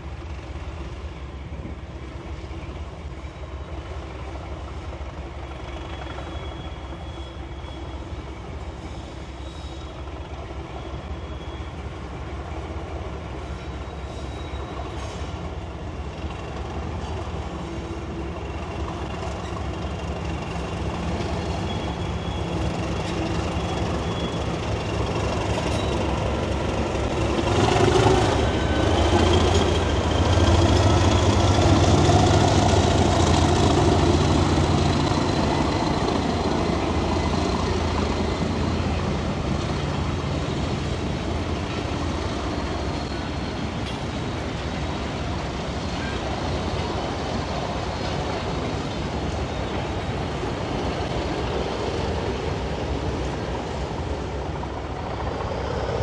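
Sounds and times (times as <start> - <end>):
diesel locomotive engine droning: 0.0 - 56.0
train wagons rolling: 0.0 - 56.0.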